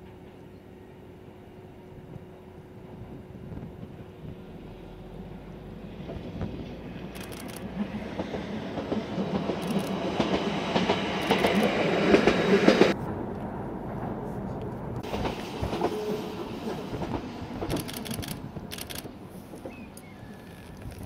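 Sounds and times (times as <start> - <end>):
electric railcar passing: 0.0 - 21.0.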